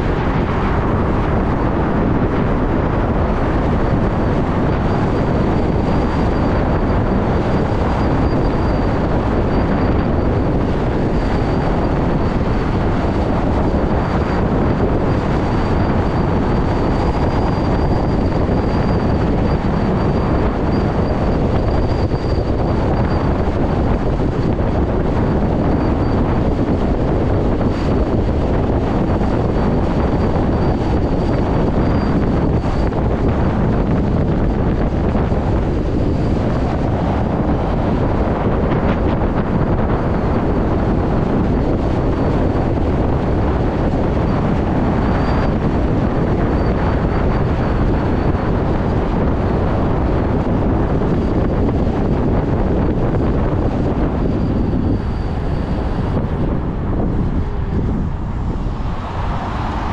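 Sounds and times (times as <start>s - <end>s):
road noise: 0.0s - 59.9s
wind rush on microphone: 0.0s - 59.9s
thin high whine: 3.4s - 59.9s.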